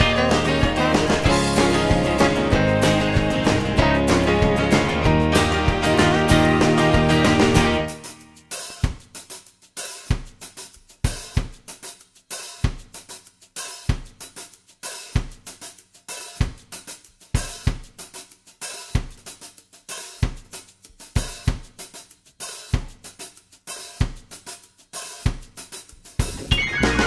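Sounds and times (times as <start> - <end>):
drum kit music: 0.0 - 27.0.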